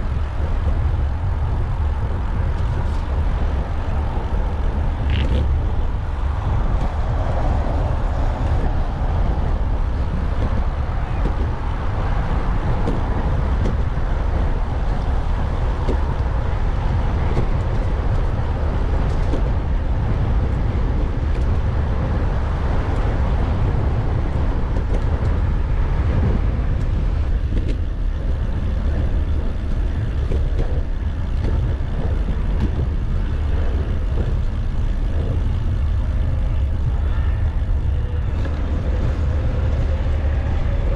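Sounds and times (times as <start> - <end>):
road traffic: 0.0 - 40.9
wind buffeting microphone: 0.0 - 40.9.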